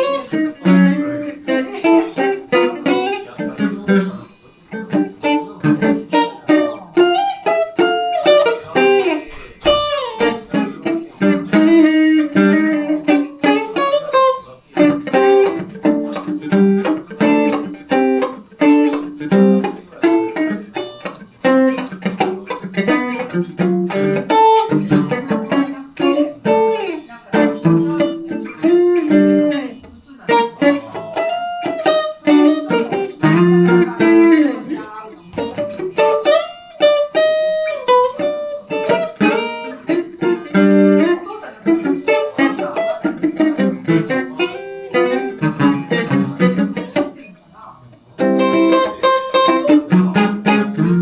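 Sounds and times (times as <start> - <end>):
solo electric guitar: 0.0 - 51.0.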